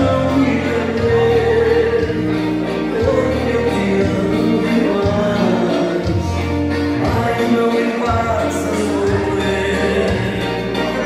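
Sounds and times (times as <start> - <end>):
dance music with singing: 0.0 - 11.0.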